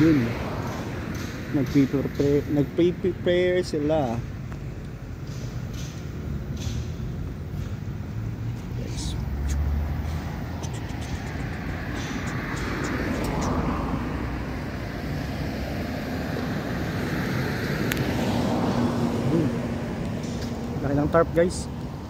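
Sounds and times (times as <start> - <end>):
cars passing by: 0.0 - 22.0.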